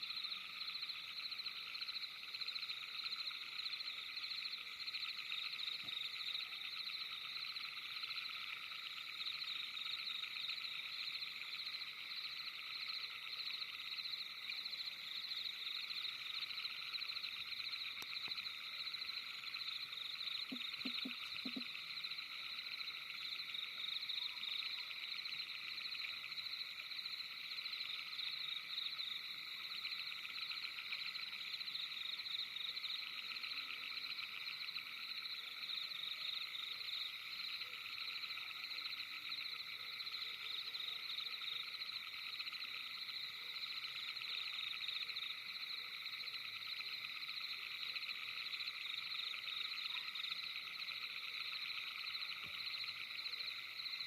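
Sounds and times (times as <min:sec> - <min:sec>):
frogs trilling in chorus: 0:00.0 - 0:54.0.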